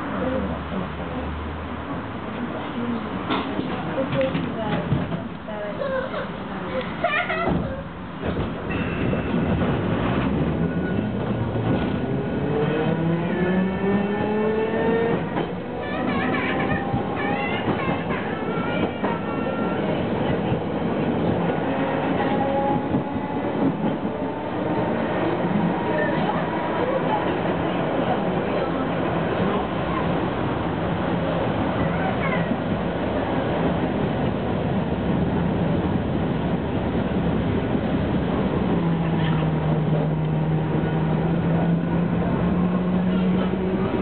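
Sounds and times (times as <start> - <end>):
tram wheels rumbling on rails: 0.0 - 44.0.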